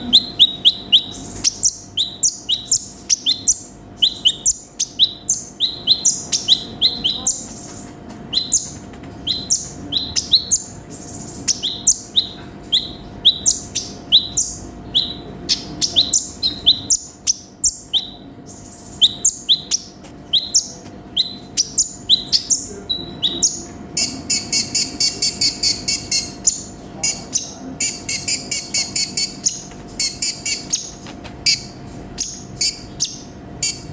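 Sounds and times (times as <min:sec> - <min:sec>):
bird chirping and trilling: 0:00.0 - 0:33.9.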